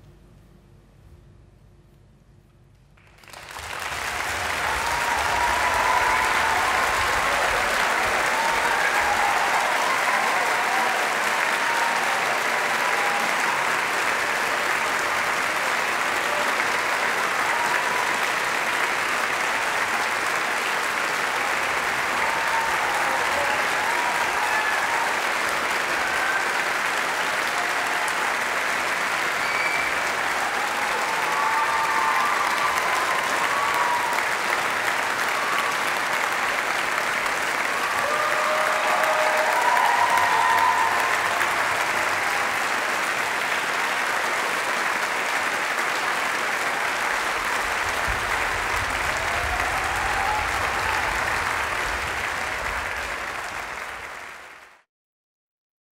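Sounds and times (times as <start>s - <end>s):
large audience applauding: 3.0s - 54.9s.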